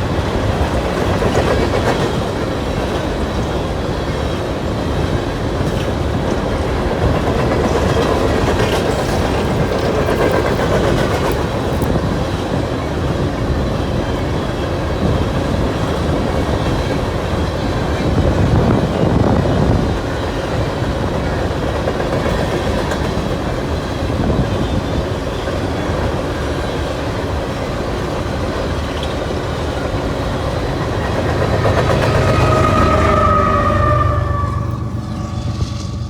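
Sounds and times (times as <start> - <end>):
train cars rumbling on rails: 0.0 - 36.0.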